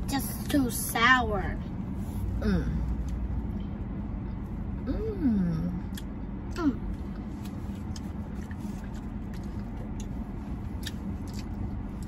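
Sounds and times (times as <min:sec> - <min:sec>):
car engine hum in cabin: 0:00.0 - 0:12.0.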